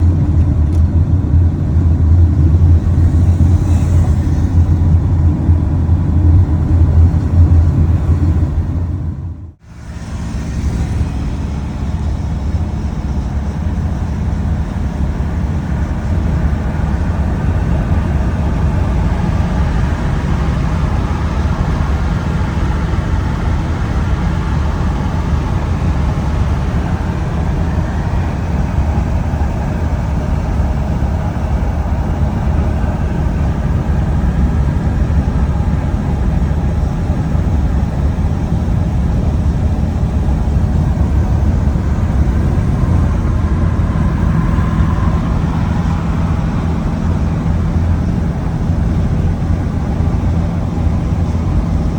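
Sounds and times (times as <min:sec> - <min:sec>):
vehicle engine and road rumble: 0:00.0 - 0:51.9.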